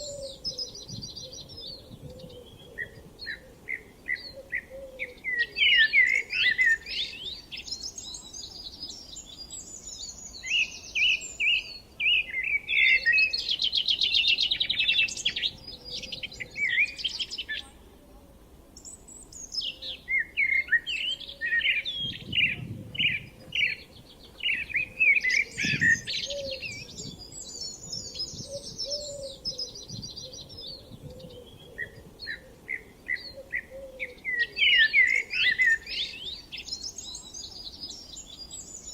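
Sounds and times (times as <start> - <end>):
songbirds singing: 0.0 - 18.0, 18.7 - 38.9.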